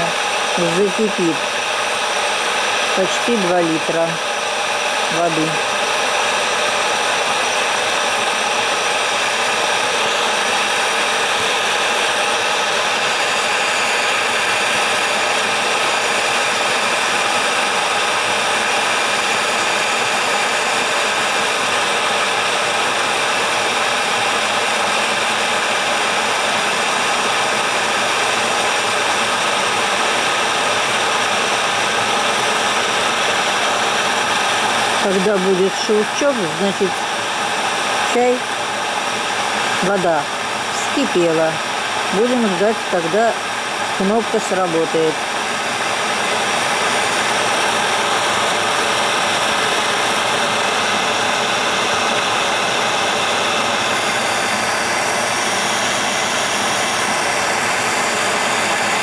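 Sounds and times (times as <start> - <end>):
kettle water heating hiss: 0.0 - 59.0.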